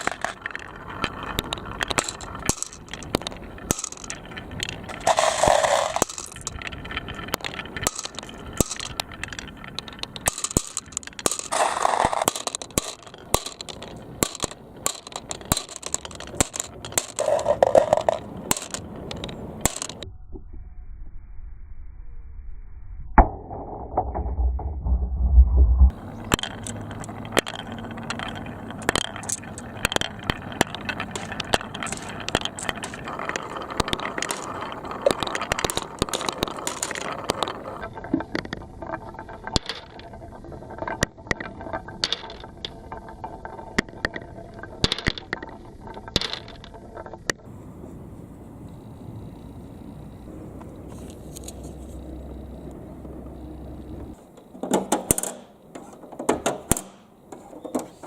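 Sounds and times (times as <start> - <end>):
balls knocking against track: 0.0 - 20.0, 25.8 - 58.0
balls rolling down a marble run: 0.0 - 20.1, 23.2 - 58.0.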